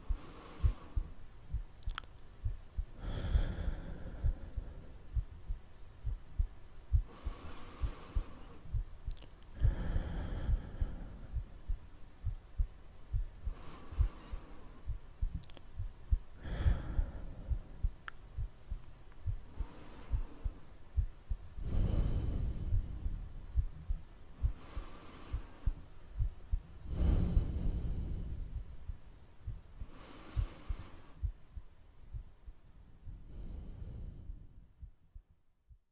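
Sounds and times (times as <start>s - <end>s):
slow breathing: 0.0s - 35.0s
soft low heartbeat thumps: 0.0s - 35.9s.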